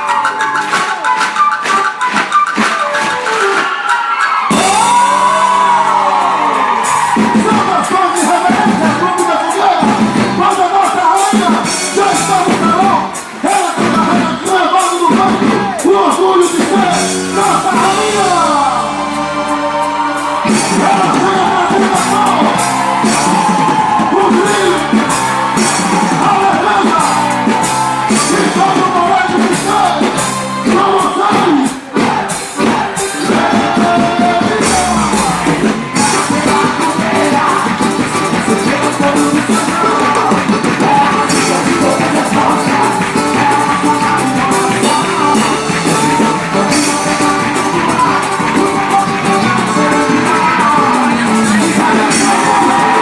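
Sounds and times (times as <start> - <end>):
music with singing: 0.0 - 53.0
percussive beat: 0.0 - 53.0.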